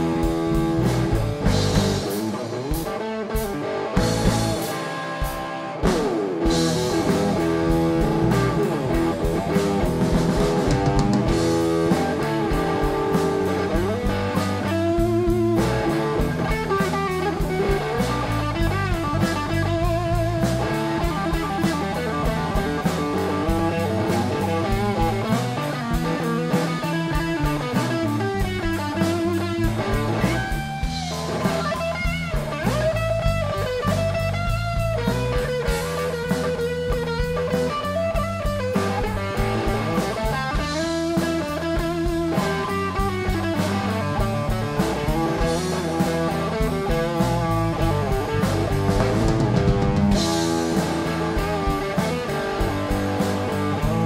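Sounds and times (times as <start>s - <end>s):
bass guitar: 0.0s - 54.0s
drum kit beat: 0.0s - 54.0s
electric guitar lead: 0.0s - 54.0s.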